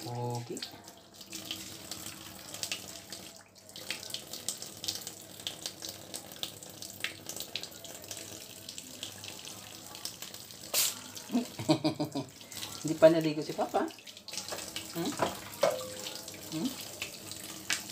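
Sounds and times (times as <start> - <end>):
tap water running into steel sink: 0.0 - 17.9.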